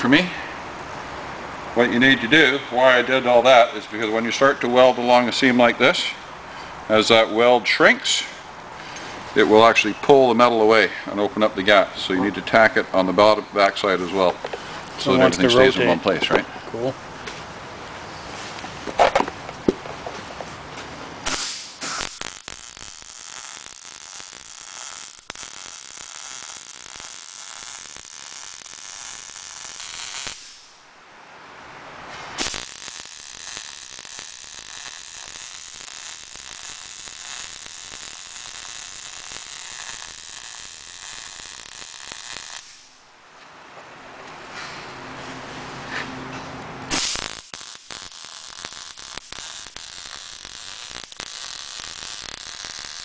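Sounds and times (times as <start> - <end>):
welding arc hissing crackle: 0.0 - 31.0, 31.6 - 43.4, 46.8 - 53.0.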